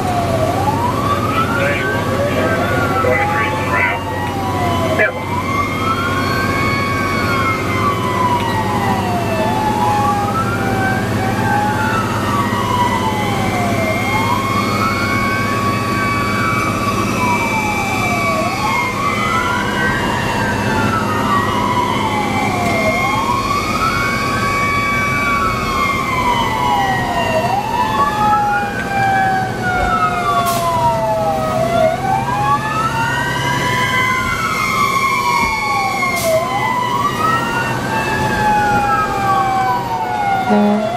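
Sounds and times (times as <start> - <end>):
fire engine sirens wailing: 0.0 - 40.9
truck engine drone: 0.0 - 40.9.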